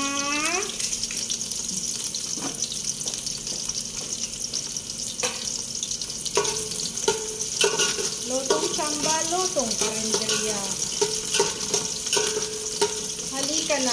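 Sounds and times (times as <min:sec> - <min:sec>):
food sizzling in pan: 0:00.0 - 0:13.9.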